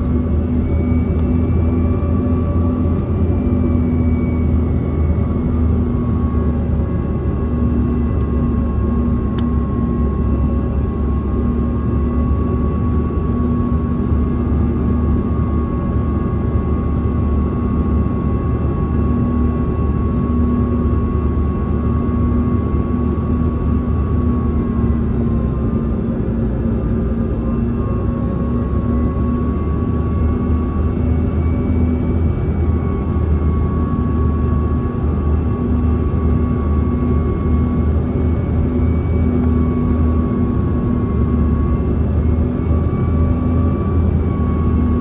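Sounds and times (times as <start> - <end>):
jet engine whine: 0.0 - 45.0.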